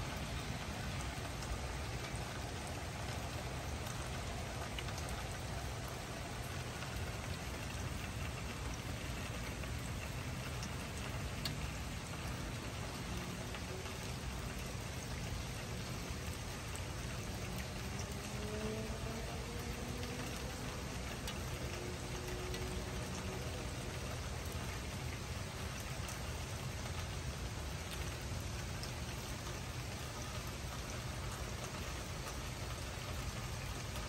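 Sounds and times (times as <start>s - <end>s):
raindrop ticks: 0.0s - 34.0s
steady rain falling: 0.0s - 34.0s.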